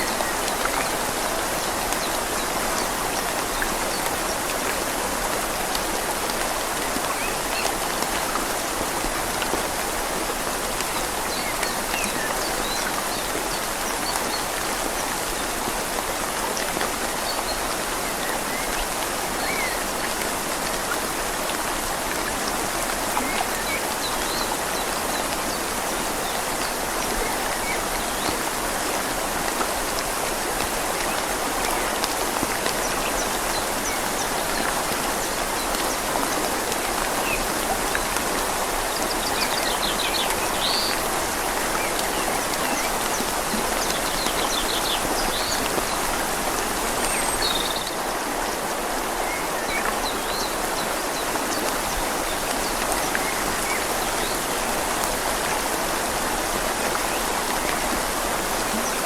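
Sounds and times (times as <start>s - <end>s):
flowing river: 0.0s - 59.0s
rain falling on leaves: 0.0s - 59.0s.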